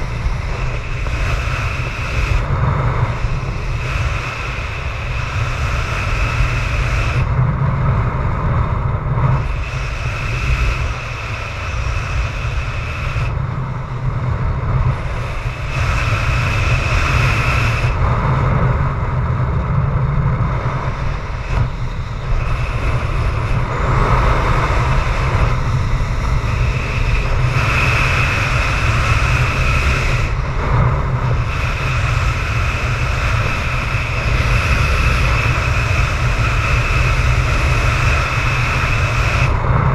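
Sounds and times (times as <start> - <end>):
strong wind buffeting microphone: 0.0 - 39.9
wind whistling: 0.0 - 39.9.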